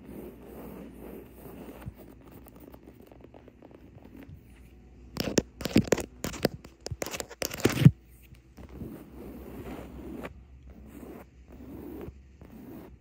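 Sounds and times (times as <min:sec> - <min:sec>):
scratching on woven fabric: 0:00.0 - 0:13.0.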